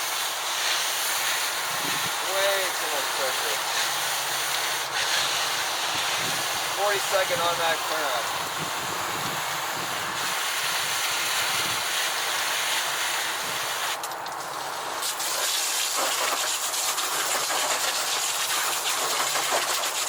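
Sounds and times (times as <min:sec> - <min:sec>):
high pressure hose spraying water: 0:00.0 - 0:20.0.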